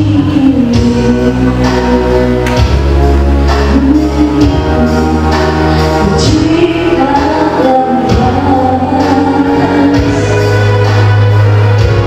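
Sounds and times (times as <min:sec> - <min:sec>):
woman singing into a microphone: 0:00.0 - 0:02.8, 0:03.5 - 0:11.4
amplified backing track: 0:00.0 - 0:12.0.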